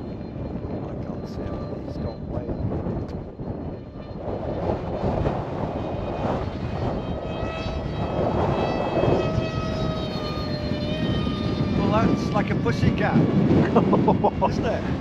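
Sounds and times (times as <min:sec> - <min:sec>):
aircraft propeller whine: 0:00.0 - 0:15.0
wind buffeting microphone: 0:00.0 - 0:15.0.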